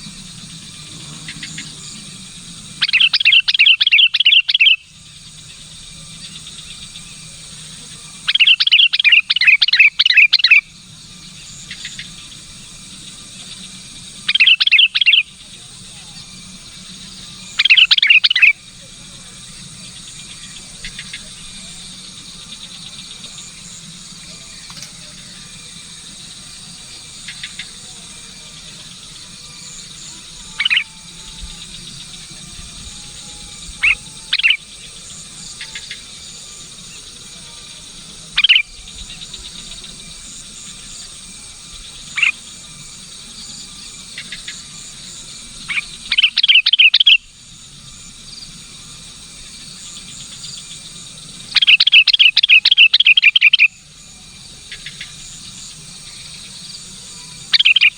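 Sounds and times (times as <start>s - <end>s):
bird calling: 0.0s - 18.8s, 26.6s - 40.9s, 41.8s - 48.6s, 49.4s - 57.9s
insect chorus: 0.0s - 57.9s.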